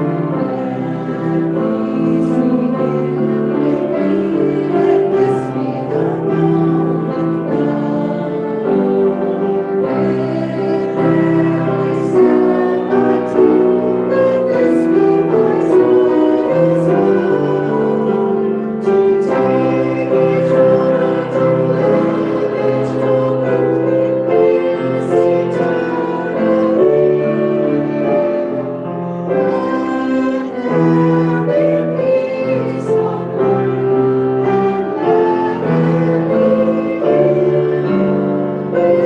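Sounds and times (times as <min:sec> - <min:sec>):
keyboard accompaniment: 0:00.0 - 0:39.0
voices singing slow song: 0:00.0 - 0:39.0.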